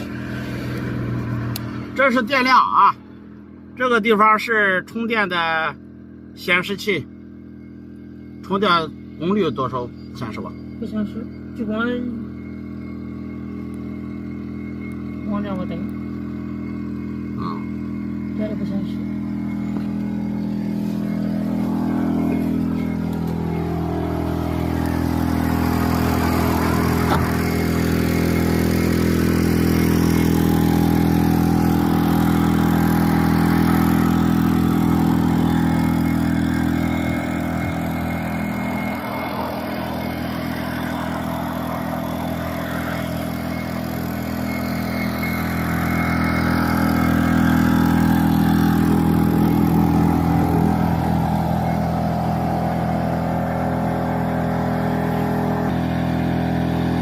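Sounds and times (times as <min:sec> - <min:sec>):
portable generator running: 0:00.0 - 0:57.0.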